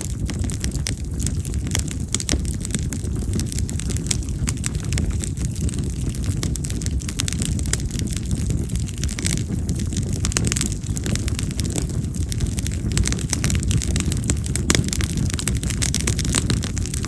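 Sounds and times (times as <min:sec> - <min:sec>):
fire crackles and pops: 0:00.0 - 0:17.0
low rush of flame: 0:00.0 - 0:17.0.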